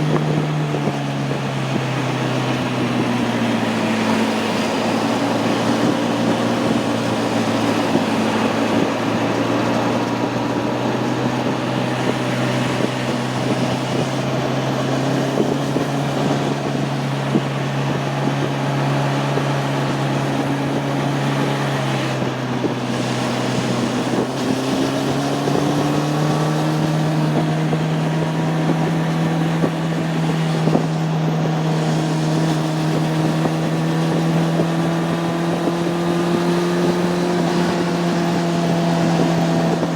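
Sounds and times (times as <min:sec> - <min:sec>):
motorcycle engine pulling: 0:00.0 - 0:39.9
wind rushing over microphone: 0:00.0 - 0:39.9.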